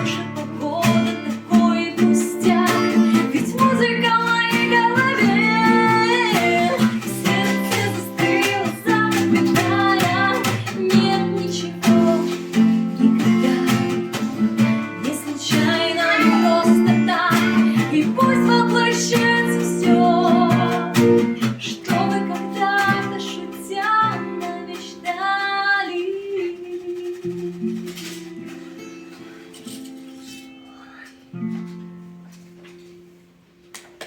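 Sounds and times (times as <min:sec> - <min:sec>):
woman singing: 0:00.0 - 0:28.5
hand drum strokes: 0:00.0 - 0:33.2
strummed acoustic guitar: 0:00.0 - 0:33.7.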